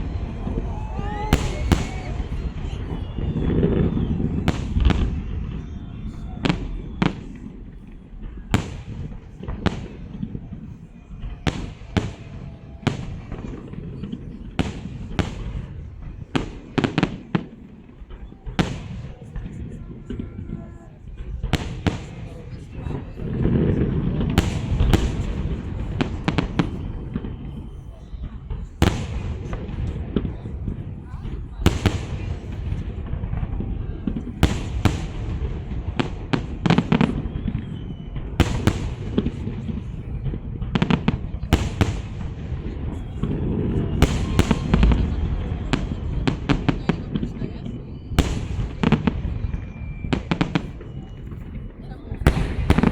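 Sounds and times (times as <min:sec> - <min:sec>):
fireworks bangs: 0:00.0 - 0:52.9
fireworks crackling: 0:00.0 - 0:52.9.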